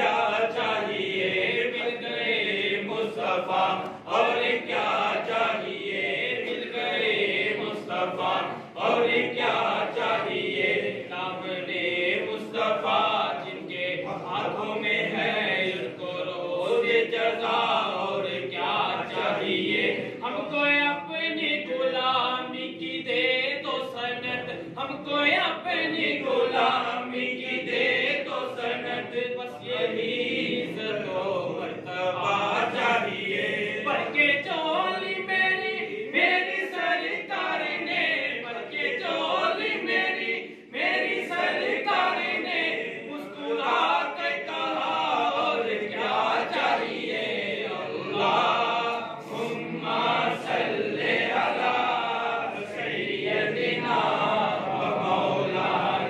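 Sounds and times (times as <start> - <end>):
men chanting together: 0.0 - 56.0.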